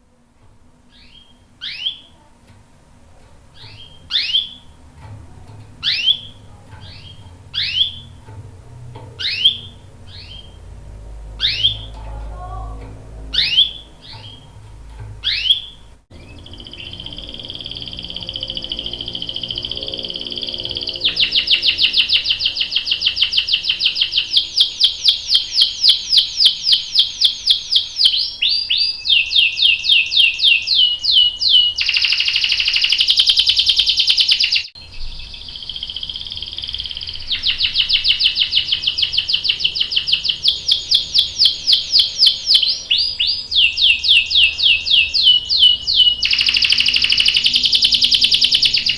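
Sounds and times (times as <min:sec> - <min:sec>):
canary singing: 0:00.8 - 0:48.9.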